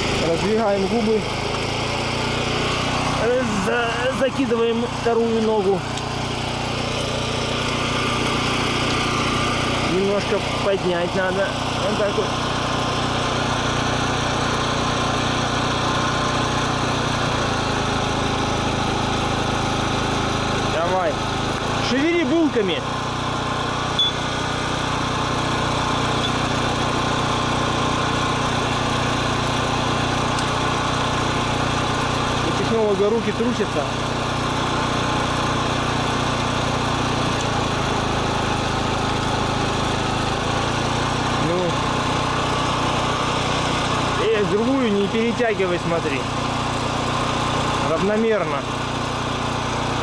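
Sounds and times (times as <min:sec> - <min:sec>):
generator engine running: 0:00.0 - 0:50.0.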